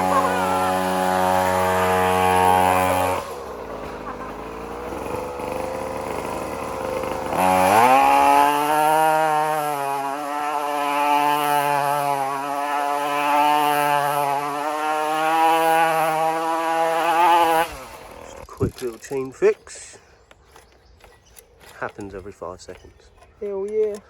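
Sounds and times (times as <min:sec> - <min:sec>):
small motorbike engine revving: 0:00.0 - 0:19.3.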